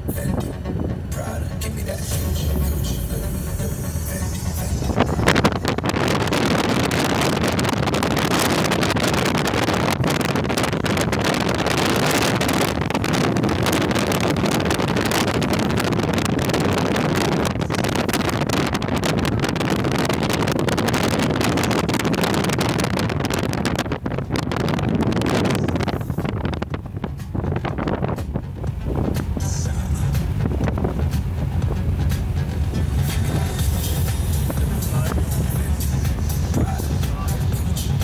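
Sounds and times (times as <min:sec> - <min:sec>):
car road noise: 0:00.0 - 0:38.0
wind buffeting microphone: 0:00.0 - 0:38.0.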